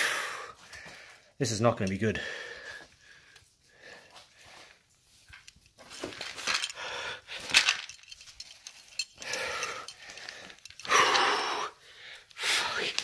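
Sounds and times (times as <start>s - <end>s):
hard breathing: 0.0s - 1.4s, 2.1s - 5.1s, 6.2s - 13.0s.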